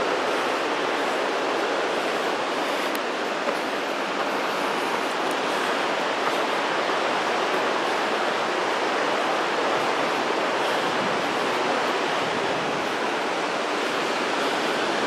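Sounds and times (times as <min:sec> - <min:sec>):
mountain river rushing: 0:00.0 - 0:15.0.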